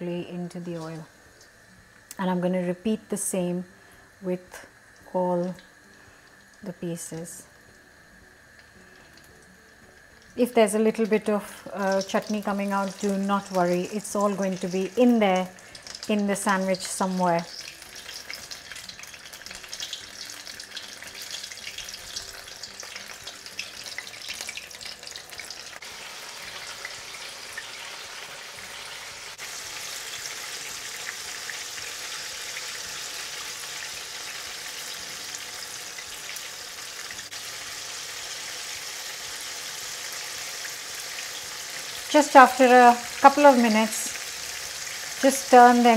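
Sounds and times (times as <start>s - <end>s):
food deep-frying in oil: 4.1s - 45.9s.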